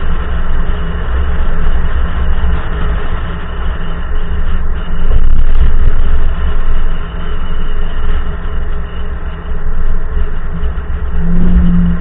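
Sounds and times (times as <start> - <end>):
car exhaust deep rumble: 0.0 - 12.0.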